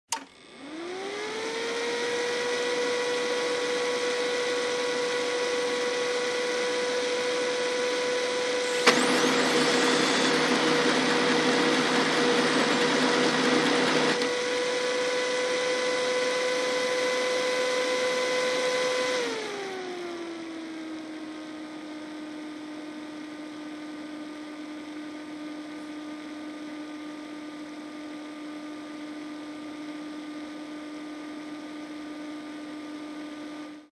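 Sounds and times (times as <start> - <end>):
photocopier motor whine: 0.1 - 27.6.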